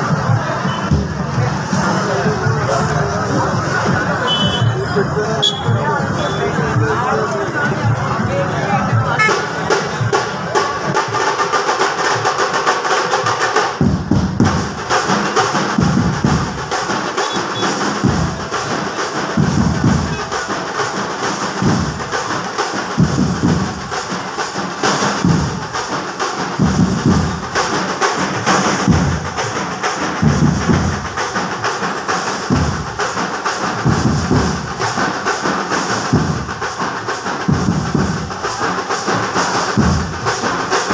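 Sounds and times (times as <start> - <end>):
heavy bass drum thumps: 0.0 - 10.9, 13.8 - 17.0, 17.8 - 20.4, 21.4 - 33.0, 33.7 - 35.0, 35.9 - 40.3
fast dense drumming: 0.0 - 40.9.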